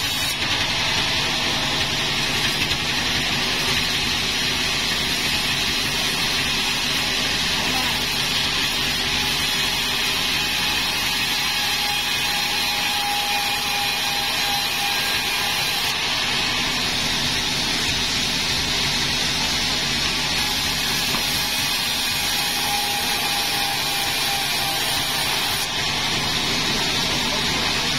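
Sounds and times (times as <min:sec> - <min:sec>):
sawmill saw cutting a log: 0:00.0 - 0:27.9.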